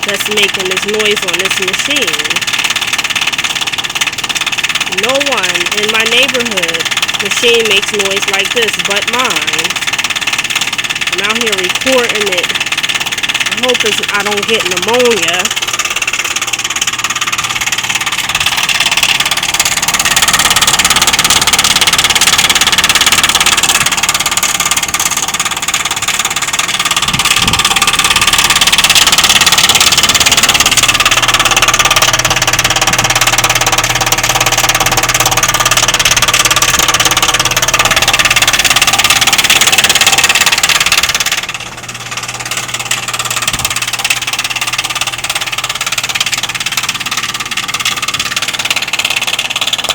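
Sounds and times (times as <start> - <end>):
heat pump unit running: 0.0 - 49.9.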